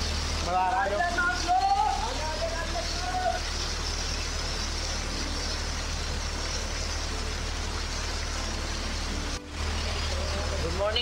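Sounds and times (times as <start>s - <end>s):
waterfall spout splashing into pool: 0.0s - 11.0s.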